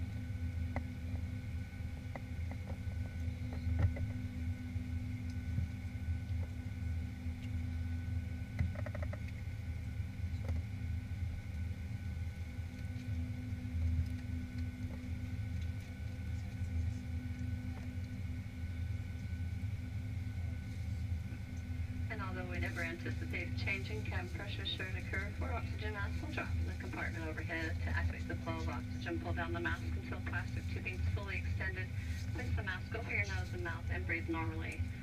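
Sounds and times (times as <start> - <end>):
airplane cabin low hum: 0.0 - 35.0
steady whining tones: 0.0 - 35.0.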